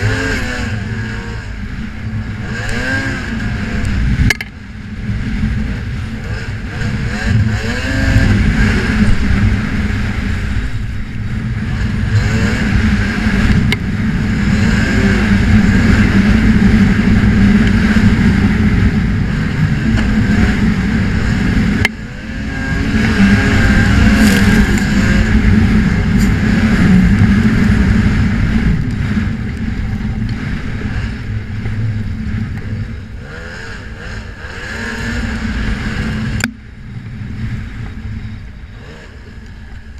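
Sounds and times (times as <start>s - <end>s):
snowmobile engine revving: 0.0s - 4.3s, 4.9s - 36.5s, 37.2s - 39.9s.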